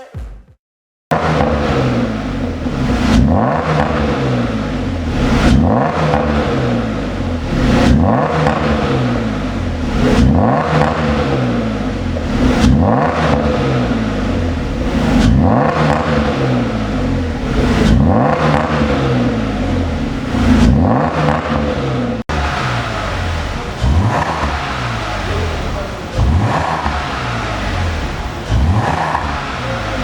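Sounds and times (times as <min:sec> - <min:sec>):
car engine revving: 0:01.1 - 0:30.0.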